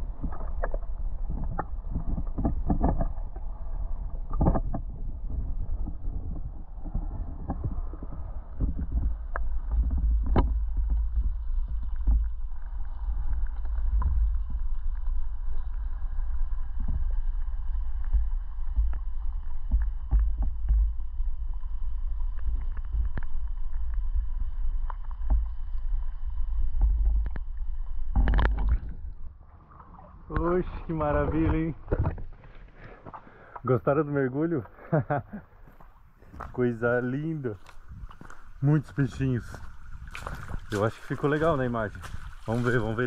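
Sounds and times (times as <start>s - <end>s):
water splashing: 0.0s - 33.7s, 35.6s - 43.0s
faint underwater clicks: 0.0s - 33.8s, 34.6s - 43.0s
underwater rumble of moving water: 0.0s - 43.0s.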